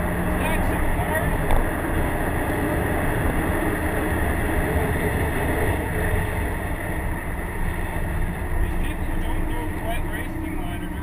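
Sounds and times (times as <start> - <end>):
car engine running inside cabin: 0.0 - 11.0
tyre and road noise: 0.0 - 11.0.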